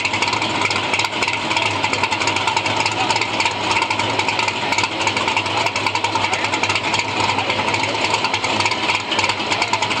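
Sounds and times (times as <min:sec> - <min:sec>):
car engine idling: 0:00.0 - 0:10.0
rattling exhaust: 0:00.0 - 0:10.0.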